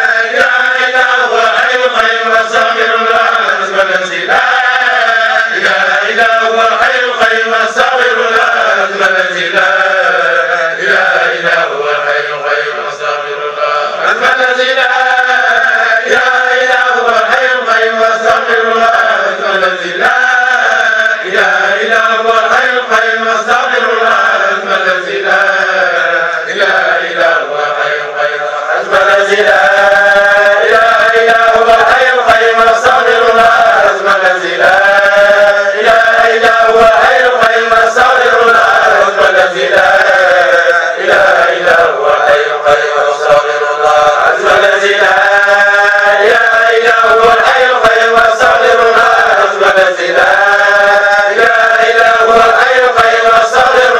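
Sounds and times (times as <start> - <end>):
men chanting together: 0.0 - 53.9.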